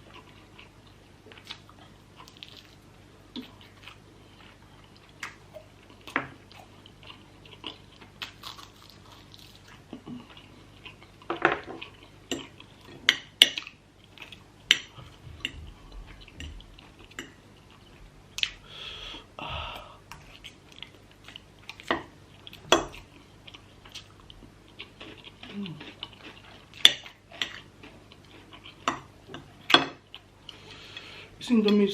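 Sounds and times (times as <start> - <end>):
chewing: 0.0 - 18.6, 20.1 - 31.1.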